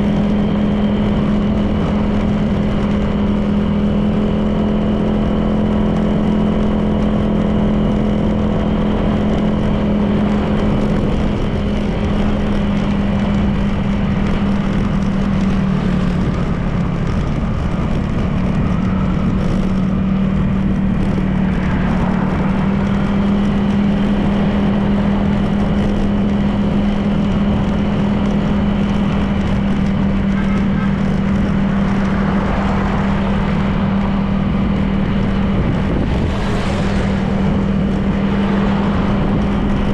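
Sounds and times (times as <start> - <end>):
scooter engine running: 0.0 - 39.9
wind and tyre noise: 0.0 - 39.9.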